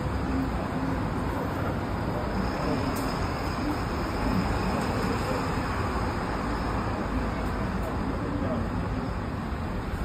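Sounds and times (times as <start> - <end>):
faint passenger voices: 0.0 - 10.0
streetcar hum and rumble: 0.0 - 10.0.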